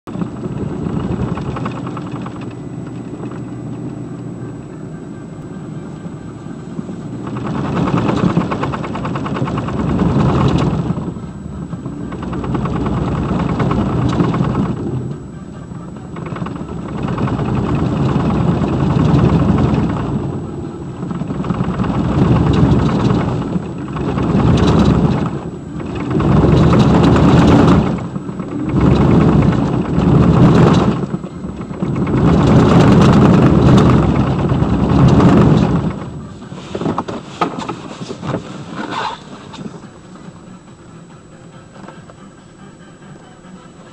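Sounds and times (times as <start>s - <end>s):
truck driveline rumble and shudder: 0.0s - 43.9s.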